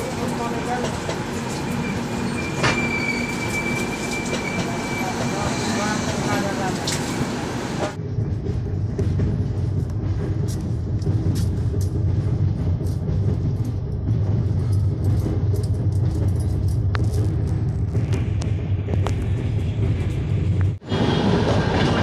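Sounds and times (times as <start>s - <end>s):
moving train rumble: 0.0s - 22.0s.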